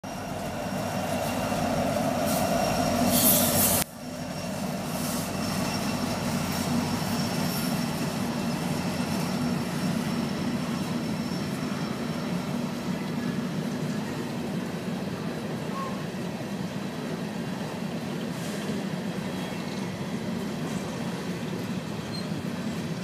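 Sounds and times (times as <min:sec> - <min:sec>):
diesel locomotives passing: 0:00.0 - 0:23.0
steady rail rumble: 0:00.0 - 0:23.0.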